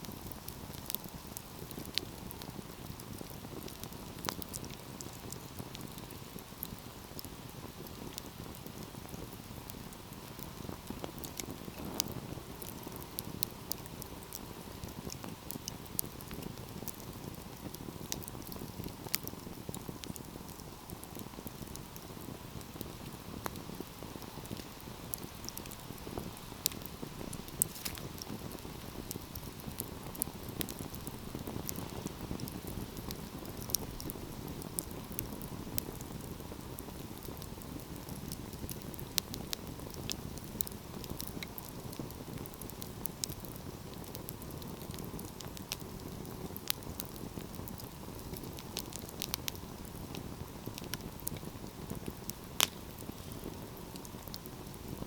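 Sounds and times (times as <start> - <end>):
logs crackling and popping: 0.0 - 55.0
low rush of flames: 0.0 - 55.0.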